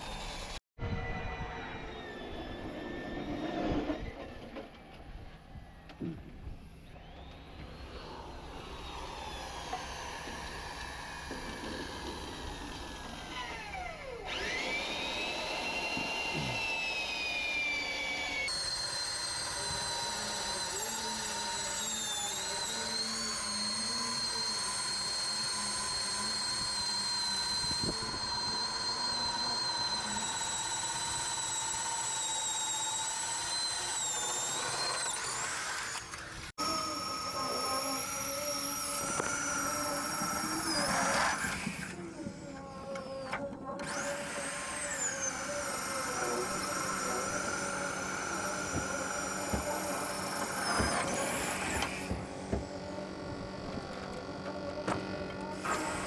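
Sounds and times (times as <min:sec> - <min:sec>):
power tool whining: 0:00.0 - 0:56.0.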